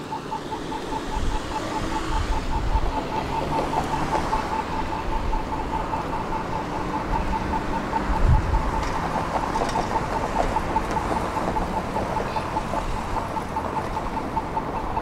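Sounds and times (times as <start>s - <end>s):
rapid electronic beeping: 0.0s - 15.0s
tram rumble: 0.0s - 15.0s.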